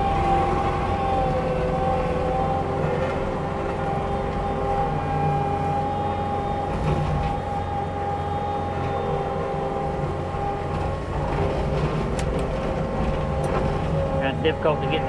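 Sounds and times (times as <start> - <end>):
diesel engine running under load: 0.0 - 15.0
high mulcher whine: 0.0 - 15.0.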